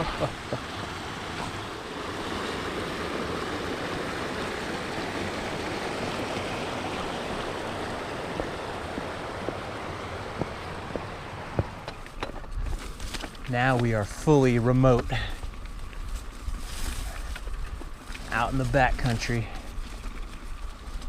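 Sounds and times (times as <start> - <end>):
mountain stream rushing: 0.0 - 20.1.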